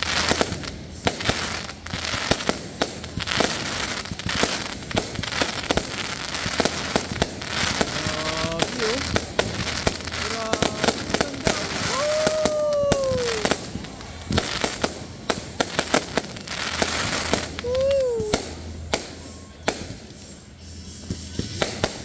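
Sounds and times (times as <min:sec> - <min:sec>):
constant hiss: 0:00.0 - 0:22.0
fireworks bursting: 0:00.0 - 0:22.0.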